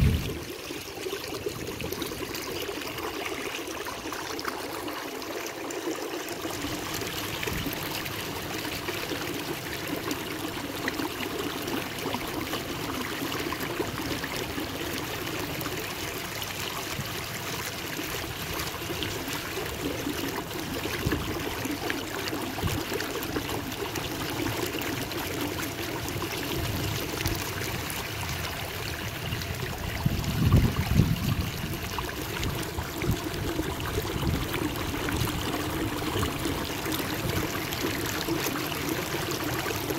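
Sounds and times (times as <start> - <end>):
water trickling along hull: 0.0 - 39.9.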